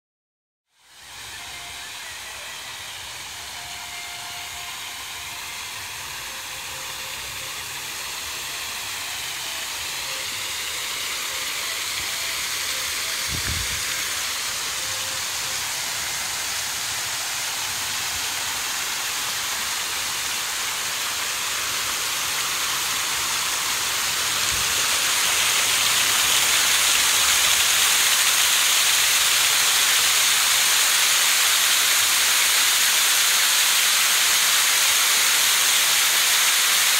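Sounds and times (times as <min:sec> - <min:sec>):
fountain water splashing into pool: 0:00.8 - 0:36.9.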